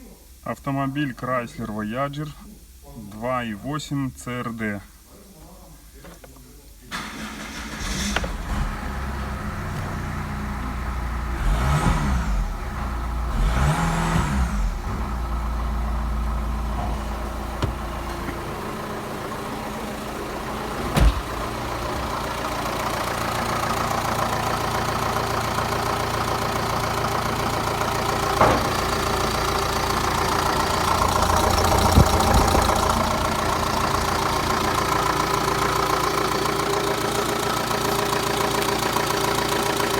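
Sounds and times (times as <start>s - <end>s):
diesel engine idling: 6.9s - 39.9s
diesel engine starting and revving: 6.9s - 39.9s.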